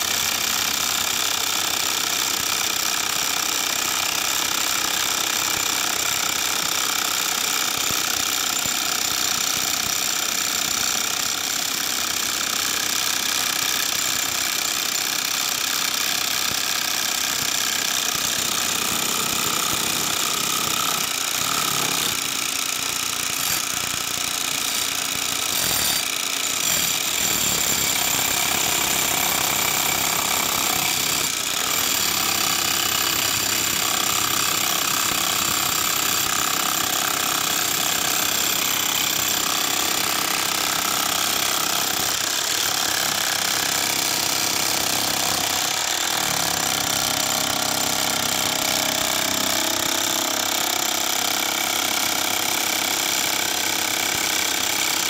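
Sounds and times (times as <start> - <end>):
demolition hammer chiselling concrete: 0.0 - 55.0.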